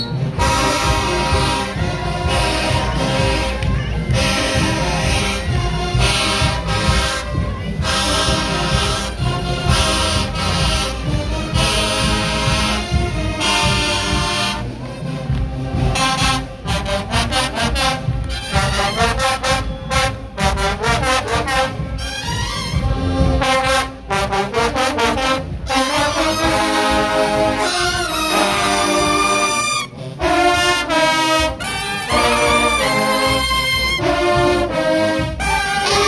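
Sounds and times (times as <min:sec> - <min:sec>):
marching band brass: 0:00.0 - 0:36.0
steady drum beat: 0:00.0 - 0:36.0.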